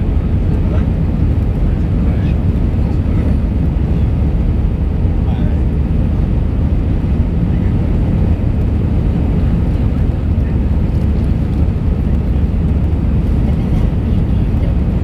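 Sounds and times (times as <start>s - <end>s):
jet engines and rushing air: 0.0s - 15.0s.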